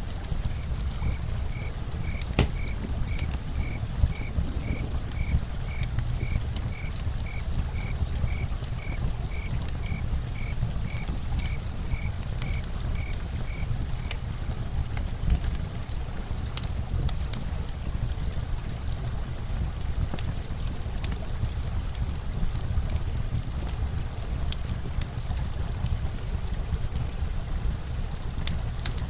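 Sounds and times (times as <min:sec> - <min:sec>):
running water rush: 0:00.0 - 0:28.8
campfire crackling: 0:00.0 - 0:29.0.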